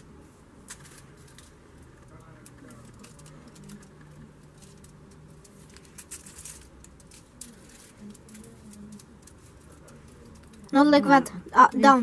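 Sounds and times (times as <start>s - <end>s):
aluminium foil crinkling: 0.6s - 12.0s.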